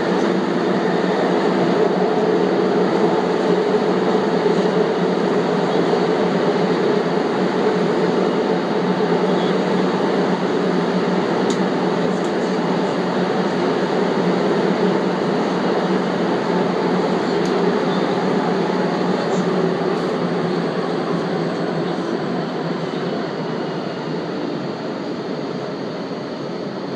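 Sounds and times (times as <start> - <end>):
train rushing rumble: 0.0 - 26.9.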